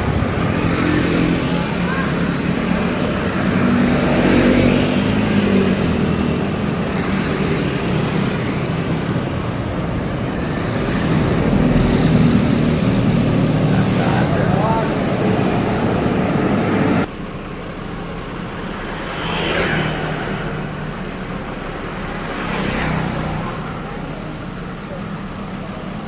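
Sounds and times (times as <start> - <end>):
passing vehicles: 0.0 - 26.0.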